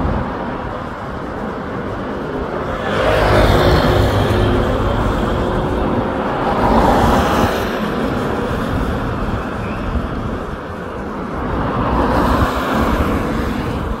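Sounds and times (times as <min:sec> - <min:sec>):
cars passing on wet road: 0:00.0 - 0:14.0.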